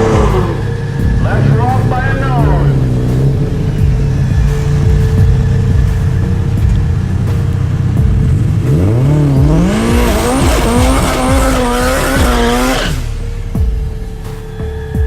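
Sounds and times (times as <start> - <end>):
car engine accelerating: 0.0 - 15.0
low rumble: 0.0 - 15.0.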